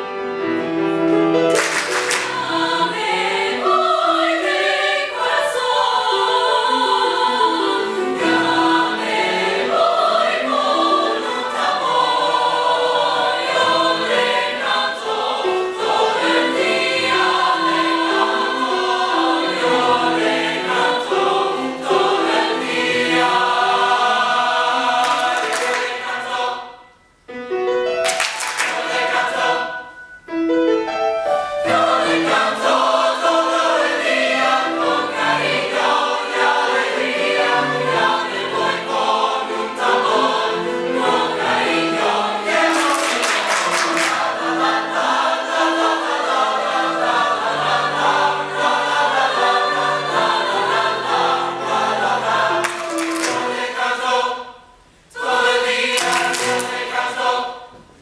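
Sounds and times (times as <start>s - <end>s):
mixed choir singing: 0.0s - 27.1s, 28.1s - 30.1s, 31.5s - 58.0s.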